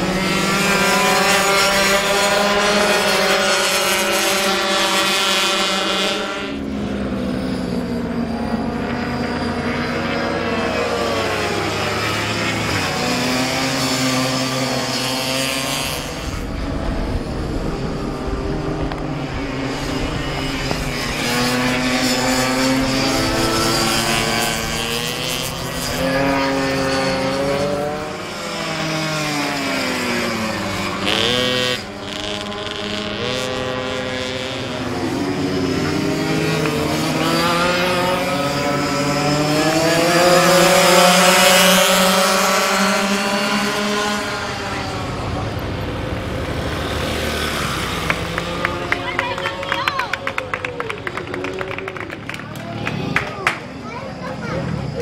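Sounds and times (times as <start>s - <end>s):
two-stroke pocket bike engines racing: 0.0s - 55.0s.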